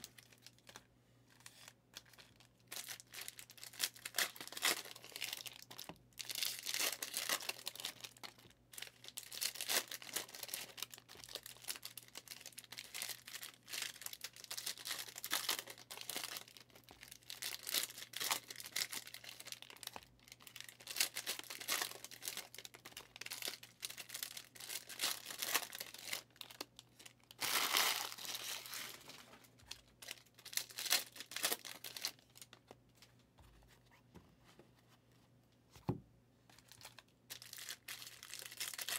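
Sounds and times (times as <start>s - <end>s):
foil wrappers crackling and tearing: 1.4s - 32.7s, 36.7s - 38.9s.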